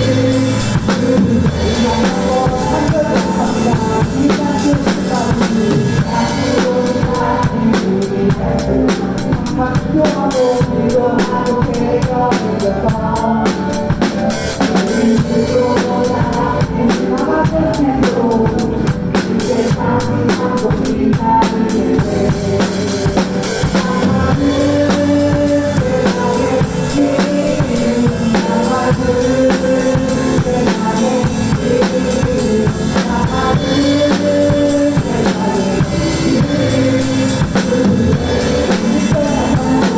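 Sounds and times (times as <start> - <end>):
backing track music: 0.0 - 39.9
drum kit playing: 0.0 - 39.9
sung melody: 0.0 - 39.9.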